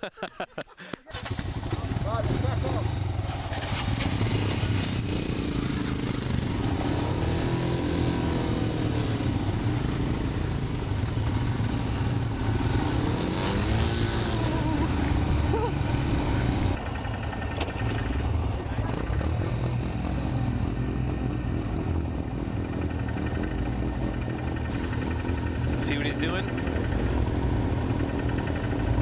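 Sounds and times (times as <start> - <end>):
motorcycle engine revving: 1.1 - 29.0.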